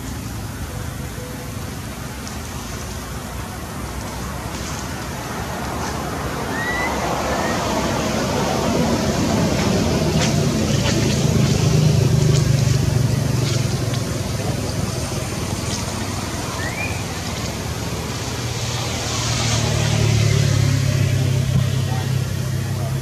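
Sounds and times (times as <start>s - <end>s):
constant hiss: 0.0s - 22.8s
engine humming: 0.0s - 23.0s.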